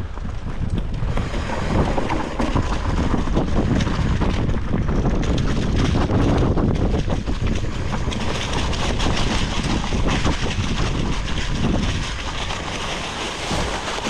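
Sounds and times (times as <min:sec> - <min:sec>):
bike tyres rolling over leaves and dirt: 0:00.0 - 0:14.0
wind buffeting microphone: 0:00.0 - 0:14.0.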